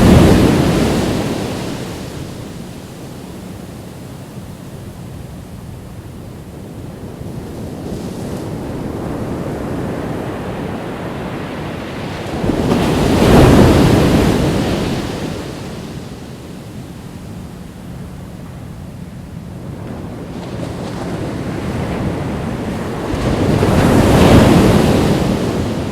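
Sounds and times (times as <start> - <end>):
ocean waves breaking on beach: 0.0 - 25.9.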